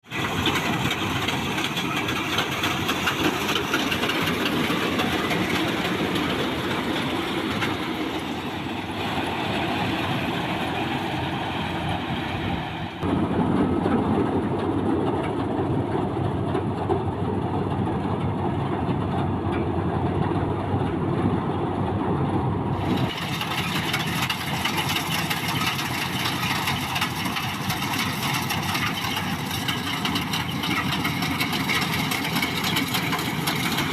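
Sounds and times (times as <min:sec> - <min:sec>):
combine harvester running: 0:00.0 - 0:33.9.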